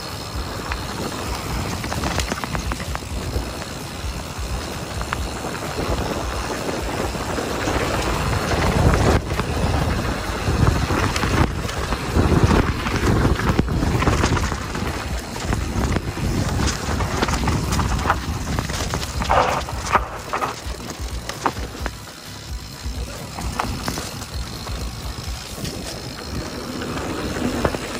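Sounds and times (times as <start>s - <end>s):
bike knocks and rattles: 0.0s - 27.9s
bike tyres rolling on dirt: 0.0s - 27.9s
wind rushing over microphone: 0.0s - 27.9s.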